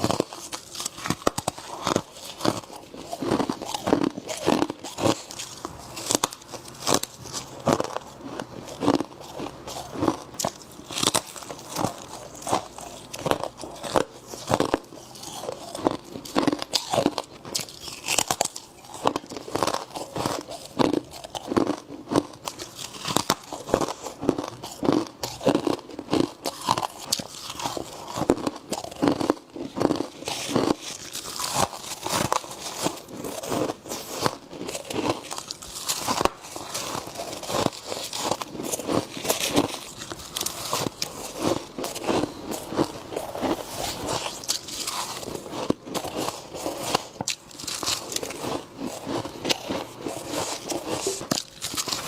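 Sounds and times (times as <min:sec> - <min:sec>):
frost being chewed: 0:00.0 - 0:52.0.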